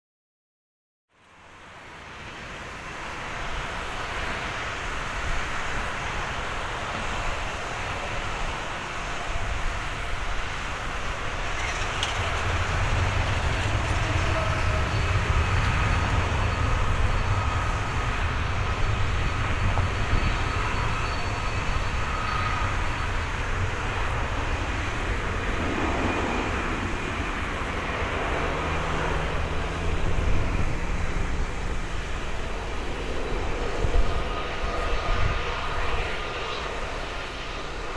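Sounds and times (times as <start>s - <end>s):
faint high whine: 1.2s - 37.9s
jet engines rumbling: 1.4s - 37.9s.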